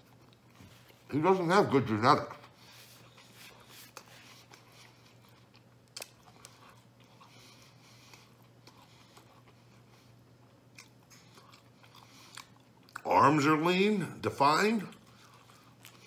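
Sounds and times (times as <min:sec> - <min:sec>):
man chewing food: 0:00.0 - 0:13.3, 0:14.4 - 0:16.0
faint low hum: 0:00.0 - 0:16.0.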